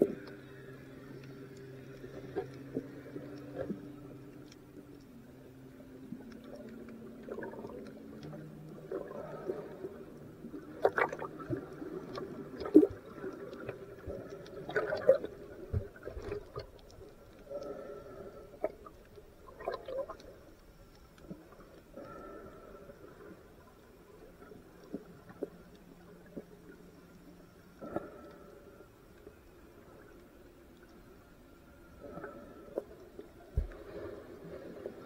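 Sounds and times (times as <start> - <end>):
faint low hum: 0.0 - 35.0
underwater gurgles and sloshing: 0.0 - 35.0.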